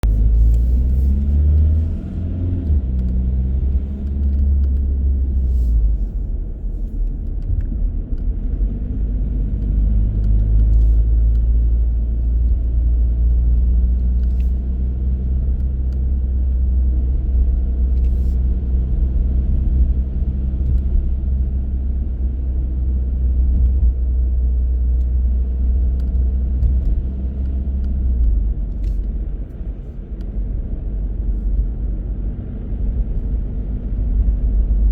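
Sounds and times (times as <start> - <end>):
car engine rumble: 0.0 - 34.9
road noise: 0.0 - 34.9.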